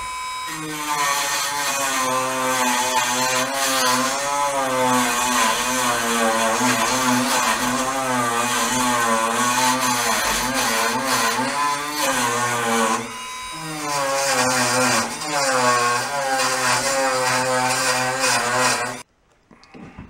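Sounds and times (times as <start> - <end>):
rotary tool grinding metal: 0.0 - 19.1.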